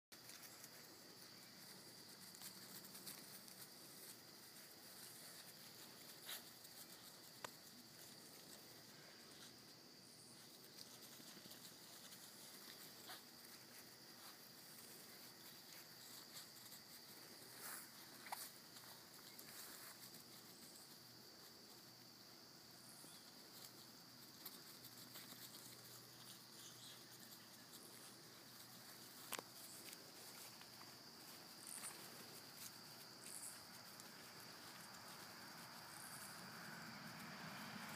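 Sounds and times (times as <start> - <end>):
soft clicks and rustles: 0.1 - 9.5, 10.4 - 21.8, 23.5 - 36.4
crickets chirping: 0.1 - 37.9.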